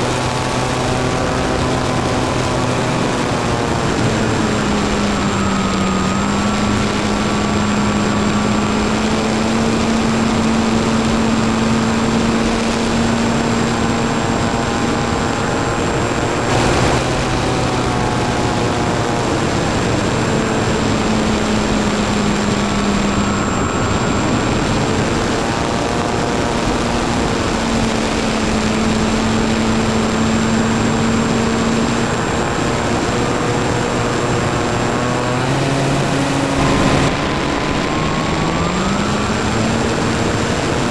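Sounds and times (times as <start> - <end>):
model aircraft motor hum: 0.0 - 40.9
wind rush: 0.0 - 40.9.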